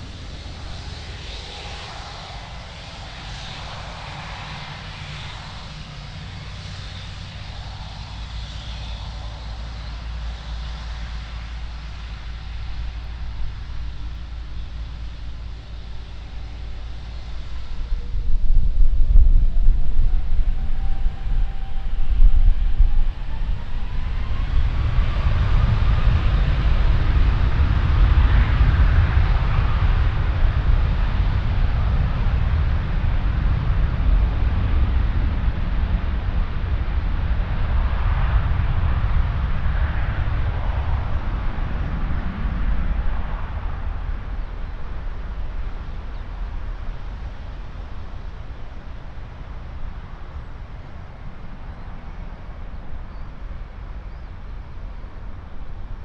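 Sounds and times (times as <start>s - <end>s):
faint rising whine: 0.0s - 56.0s
jet airliner engine rumble: 0.0s - 56.0s.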